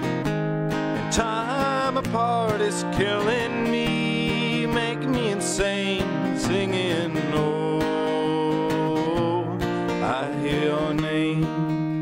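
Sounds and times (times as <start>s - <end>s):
strummed acoustic guitar: 0.0s - 12.0s
person singing: 1.0s - 12.0s.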